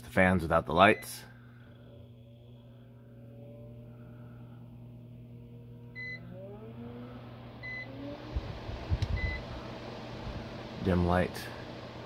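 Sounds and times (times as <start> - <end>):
small fan motors humming: 1.0 - 12.0.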